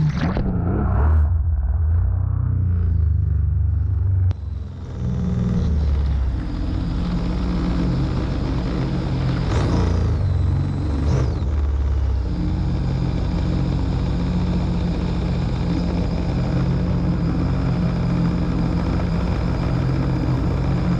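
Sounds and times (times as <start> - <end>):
watercraft engine whine and idle: 0.0 - 20.9.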